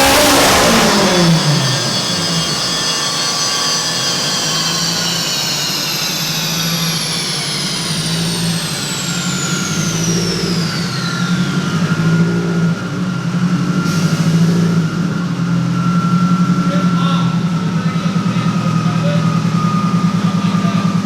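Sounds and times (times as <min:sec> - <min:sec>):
high whine falling in pitch: 0:00.0 - 0:21.0
lumpy low engine note: 0:00.0 - 0:21.0.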